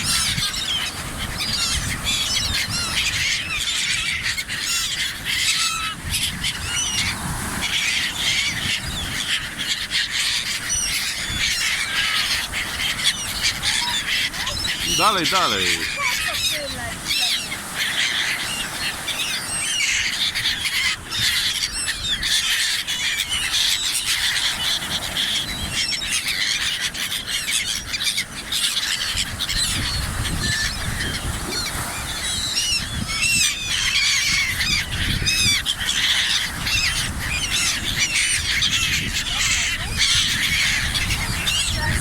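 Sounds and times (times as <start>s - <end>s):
flock of birds squawking: 0.0s - 42.0s.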